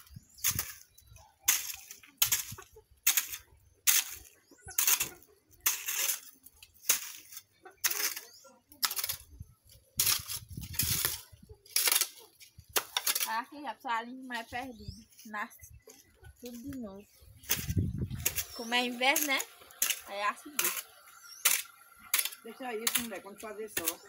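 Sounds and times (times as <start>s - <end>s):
hoe scraping dry dirt: 0.0s - 24.0s.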